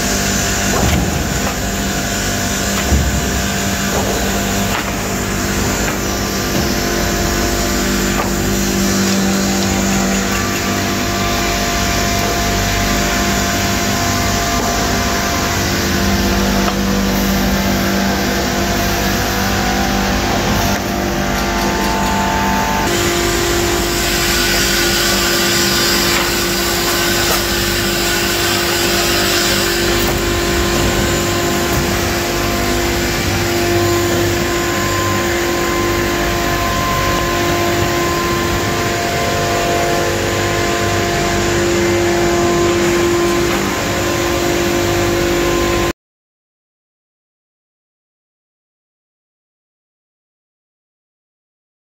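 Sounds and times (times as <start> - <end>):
sawmill machinery whining: 0.0 - 45.9.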